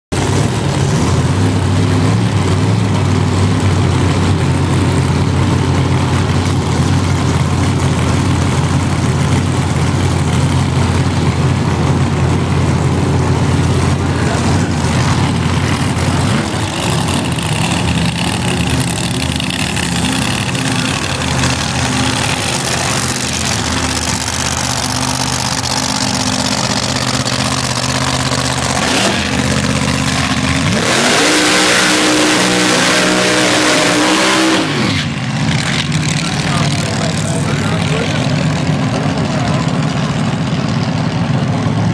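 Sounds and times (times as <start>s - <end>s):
drag racing cars engines running: 0.1s - 41.9s.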